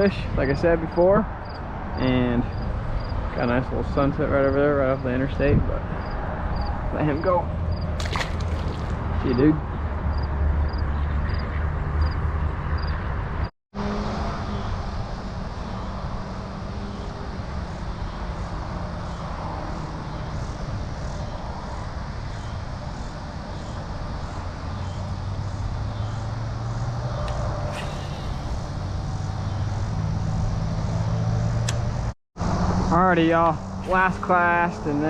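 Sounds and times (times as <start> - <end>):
highway traffic drone: 0.0 - 35.0.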